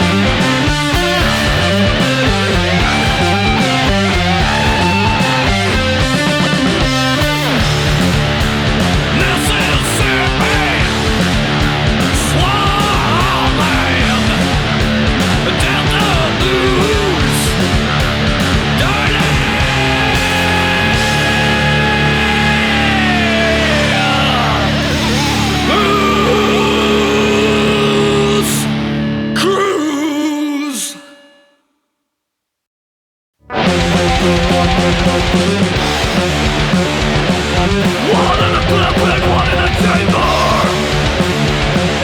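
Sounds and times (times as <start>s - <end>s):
bass guitar: 0.0s - 29.6s, 33.4s - 42.0s
drums: 0.0s - 30.0s, 33.4s - 42.0s
distorted electric guitars: 0.0s - 31.4s, 33.4s - 42.0s.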